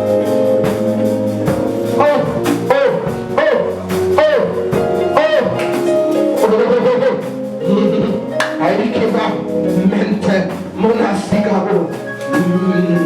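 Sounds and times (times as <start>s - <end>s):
worship music guitar chords: 0.0s - 13.0s.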